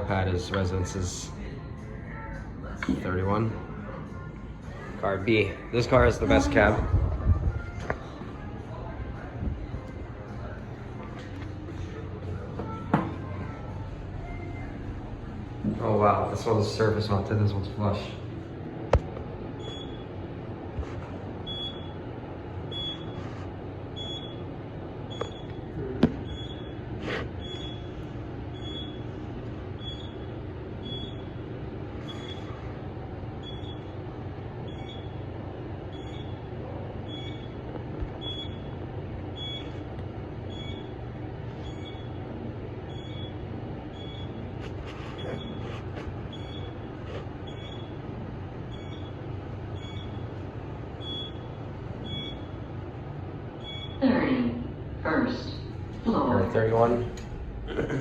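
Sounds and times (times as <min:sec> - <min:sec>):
elevator rumble and hum: 0:00.0 - 0:58.0.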